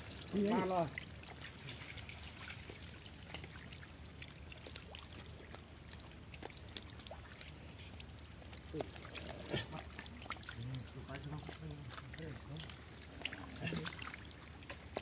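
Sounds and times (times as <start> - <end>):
faint trickling water: 0.0 - 15.0
low steady hum: 0.0 - 15.0
small ticks and splashes: 0.0 - 15.0.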